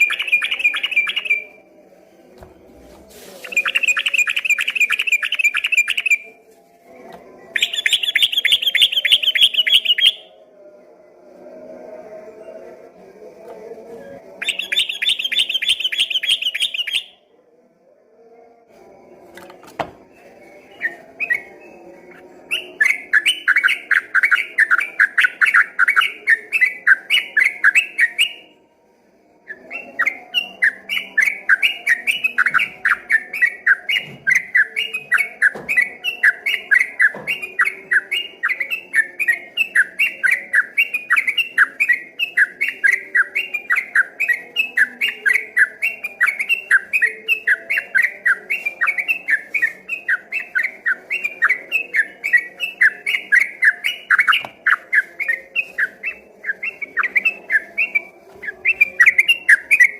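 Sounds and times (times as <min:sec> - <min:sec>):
bird singing rolling song: 0:00.0 - 0:01.6, 0:03.4 - 0:06.4, 0:07.3 - 0:10.4, 0:14.2 - 0:17.2, 0:19.3 - 0:28.5, 0:29.5 - 0:59.9.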